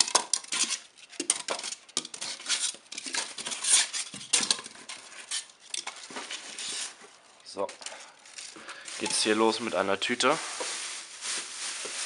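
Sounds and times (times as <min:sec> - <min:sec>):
styrofoam squeaking and scraping: 0:00.0 - 0:07.2, 0:08.3 - 0:12.0.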